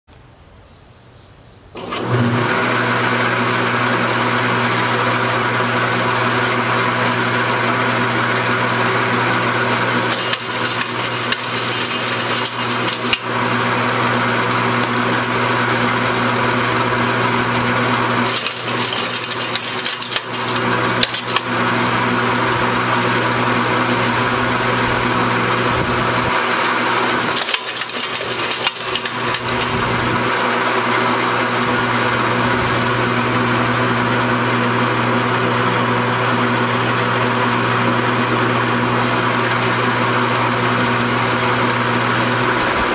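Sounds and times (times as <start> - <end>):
shredder motor hum: 1.8 - 42.9.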